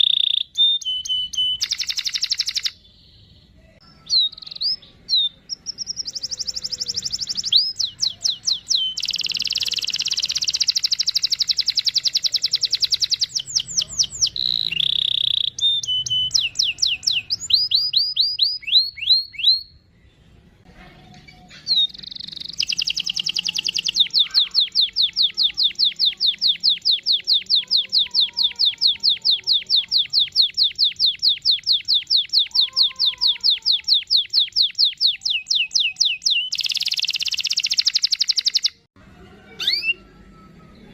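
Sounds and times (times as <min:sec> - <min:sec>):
canary singing trills: 0:00.0 - 0:19.9, 0:21.4 - 0:38.9, 0:39.5 - 0:40.4.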